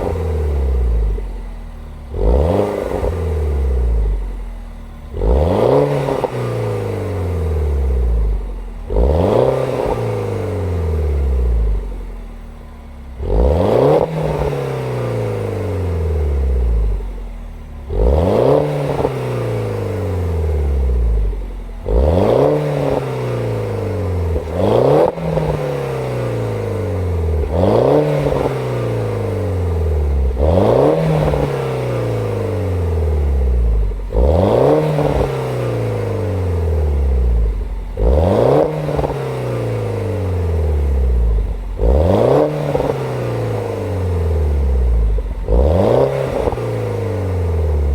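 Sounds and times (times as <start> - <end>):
car engine revving from idle: 0.0 - 47.9.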